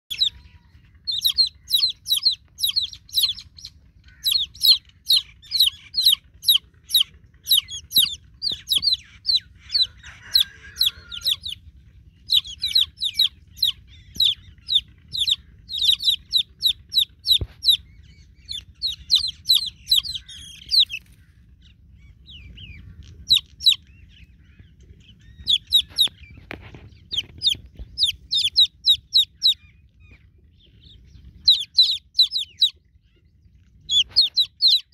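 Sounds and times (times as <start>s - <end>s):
chicks peeping loudly: 0.1s - 34.9s.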